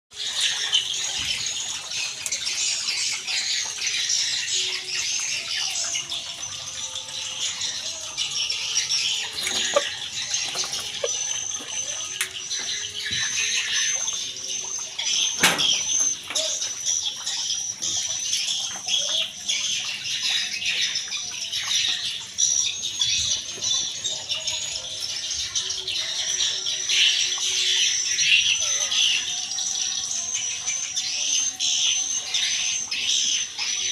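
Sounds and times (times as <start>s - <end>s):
chickens peeping and calling: 0.2s - 33.9s.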